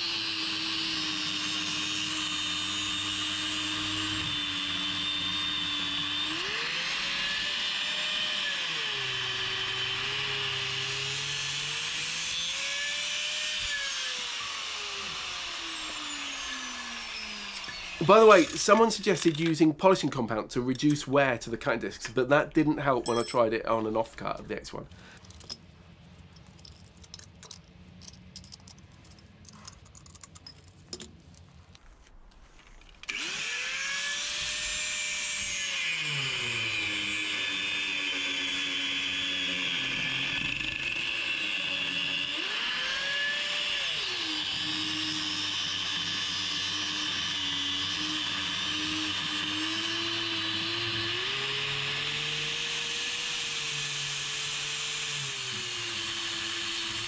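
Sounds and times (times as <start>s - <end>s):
angle grinder cutting metal: 0.0s - 22.2s, 32.8s - 57.0s.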